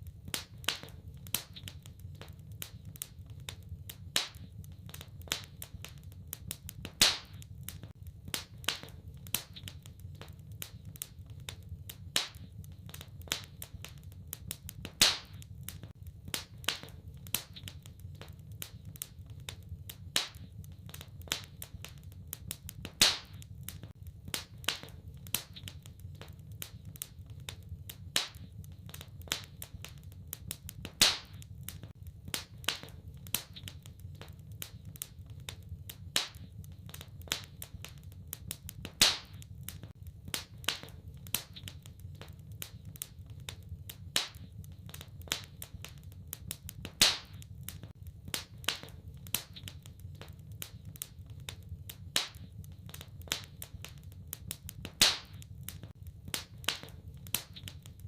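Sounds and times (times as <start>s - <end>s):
low rumble of burning: 0.0s - 58.0s
wood fire crackling and popping: 0.0s - 58.0s.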